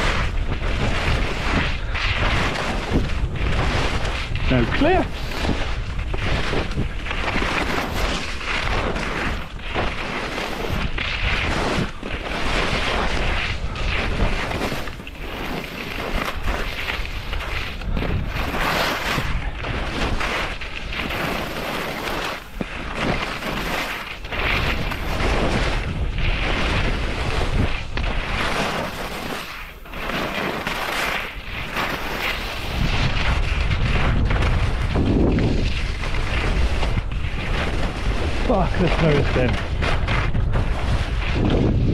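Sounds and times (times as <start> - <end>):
wind buffeting microphone: 0.0 - 21.3, 22.5 - 29.2, 31.4 - 41.9
skis scraping over snow: 0.0 - 41.9.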